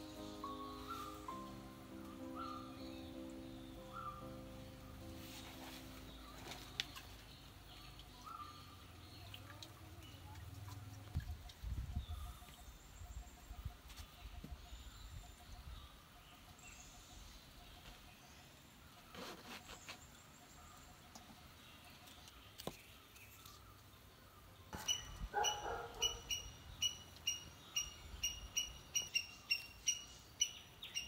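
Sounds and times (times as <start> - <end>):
birds chirping: 0.0 - 19.1, 19.8 - 31.0.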